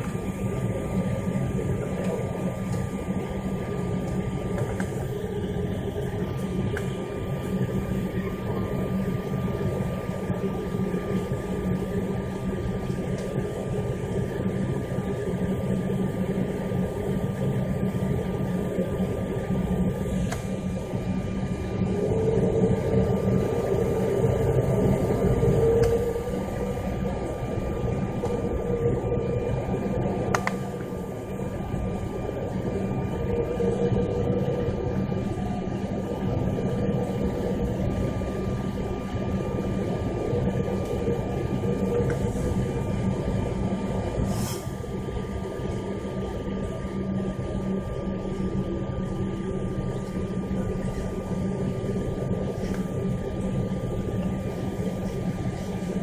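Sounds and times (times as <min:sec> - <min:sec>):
aircraft engine drone: 0:00.0 - 0:56.0
level hum tones: 0:00.0 - 0:56.0.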